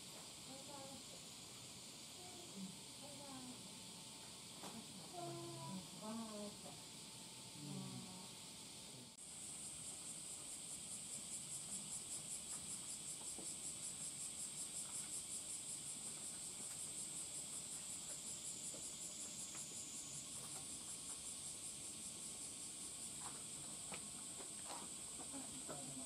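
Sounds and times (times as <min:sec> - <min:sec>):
shrill insect chorus: 0:00.0 - 0:26.0.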